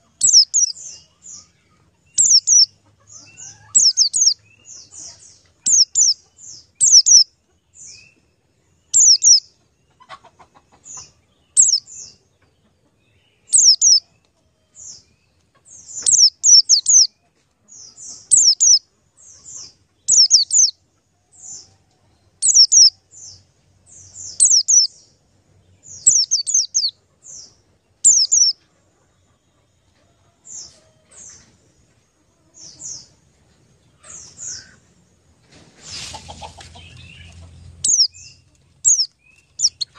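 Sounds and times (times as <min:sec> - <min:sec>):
small bird chirping: 0:00.0 - 0:31.6, 0:32.3 - 0:39.9.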